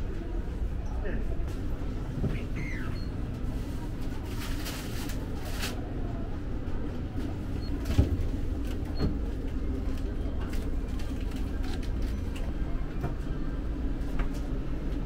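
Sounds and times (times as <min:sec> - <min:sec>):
low machinery rumble: 0:00.0 - 0:15.0.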